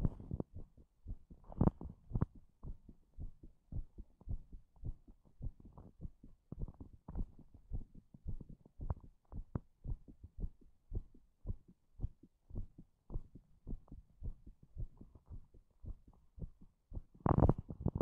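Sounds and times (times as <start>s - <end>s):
heartbeat thumps: 0.0s - 18.0s.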